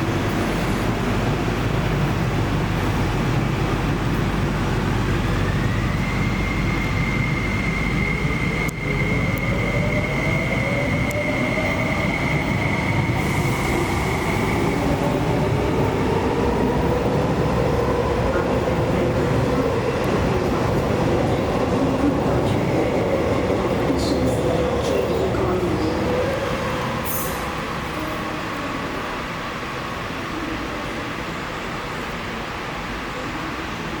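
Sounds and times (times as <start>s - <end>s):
train rolling rumble: 0.0s - 34.0s.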